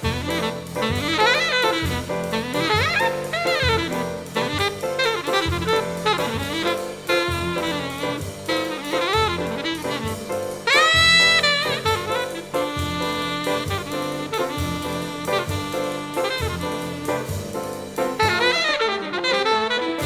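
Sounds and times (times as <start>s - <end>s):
drums: 0.0s - 20.0s
jazz saxophone melody: 0.0s - 20.0s.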